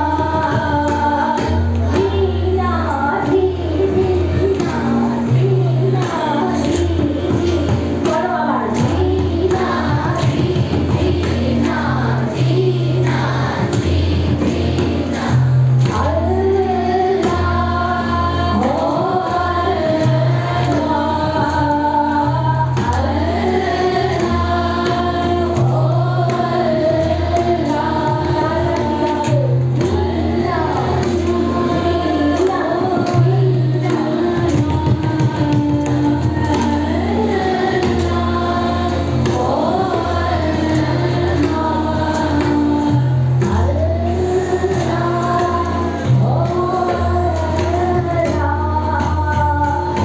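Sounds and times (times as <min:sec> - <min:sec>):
woman singing: 0:00.0 - 0:50.0.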